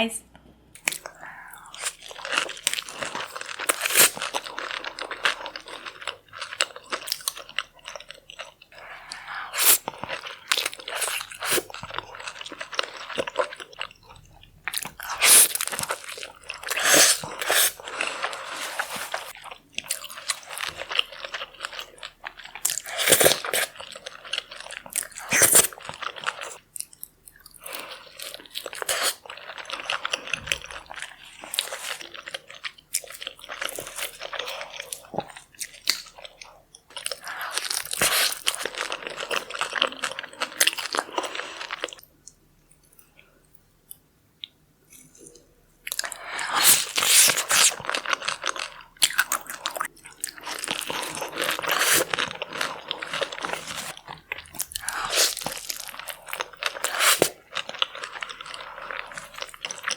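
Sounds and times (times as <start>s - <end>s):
crunching and chewing seafood: 0.8s - 59.9s.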